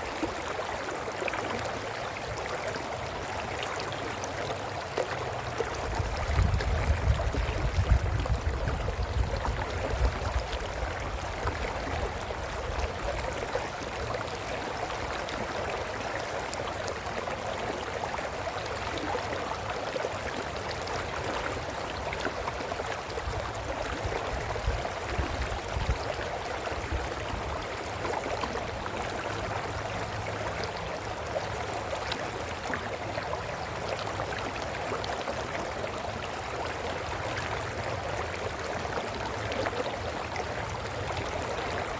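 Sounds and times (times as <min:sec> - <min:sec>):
brook flowing over stones: 0:00.0 - 0:41.9.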